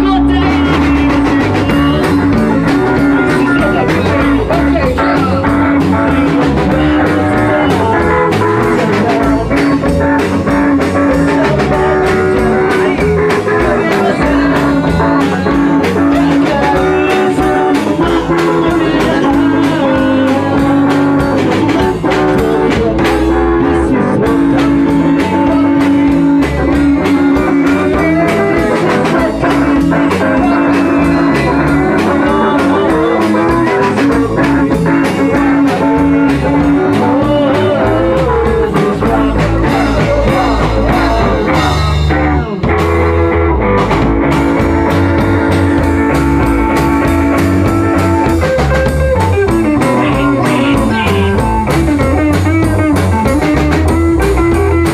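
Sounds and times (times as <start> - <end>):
bass guitar: 0.0 - 54.9
drum kit: 0.0 - 54.9
electric guitars: 0.0 - 54.9.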